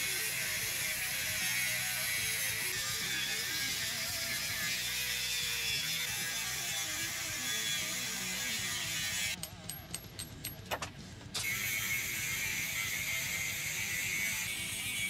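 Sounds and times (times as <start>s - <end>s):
angle grinder cutting steel: 0.0s - 9.4s, 11.4s - 15.0s.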